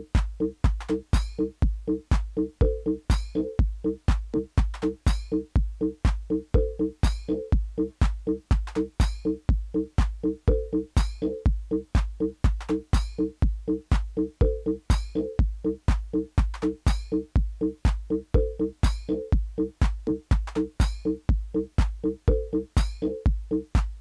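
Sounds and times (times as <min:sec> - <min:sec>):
electronic techno music: 0:00.0 - 0:24.0
kick drum: 0:00.0 - 0:24.0.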